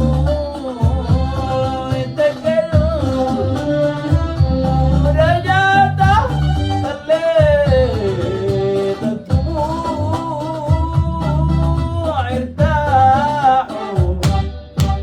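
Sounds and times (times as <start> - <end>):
man singing: 0.0 - 14.9
bass line: 0.0 - 15.0
plucked strings: 0.0 - 15.0.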